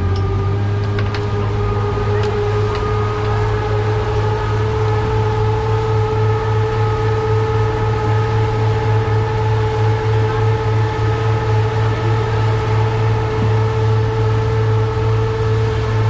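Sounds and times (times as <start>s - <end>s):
boat engine humming: 0.0s - 16.0s
high whine: 0.0s - 16.0s.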